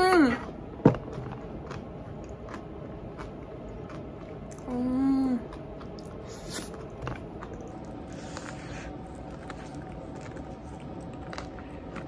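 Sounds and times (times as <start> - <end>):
person chewing and biting: 0.4 - 4.7, 5.5 - 12.0.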